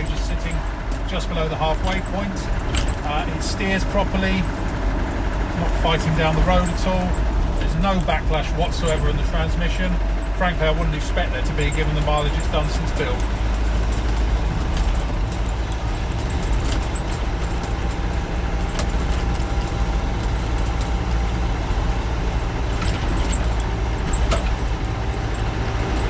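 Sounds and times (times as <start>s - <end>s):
light clicks and rattles: 0.0s - 9.5s, 10.1s - 26.0s
diesel engine running: 0.0s - 26.0s
road and tyre noise: 0.0s - 26.0s.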